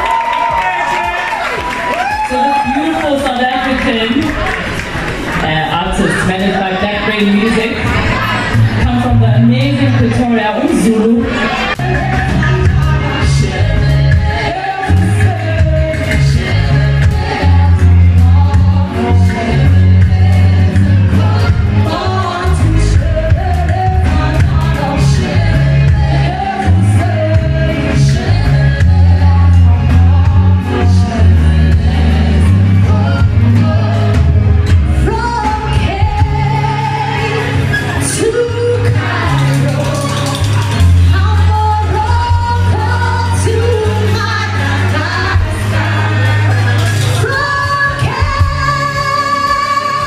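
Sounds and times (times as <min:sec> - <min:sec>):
drums: 0:00.0 - 0:05.4, 0:06.1 - 0:50.0
bass guitar: 0:00.0 - 0:50.0
backing vocals: 0:05.4 - 0:50.0
woman singing lead: 0:07.6 - 0:50.0.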